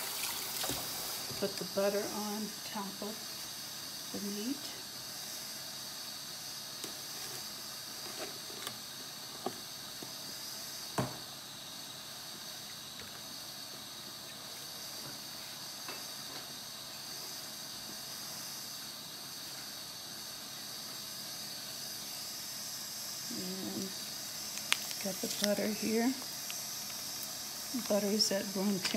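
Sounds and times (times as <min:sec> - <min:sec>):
steady high hiss: 0:00.0 - 0:28.9.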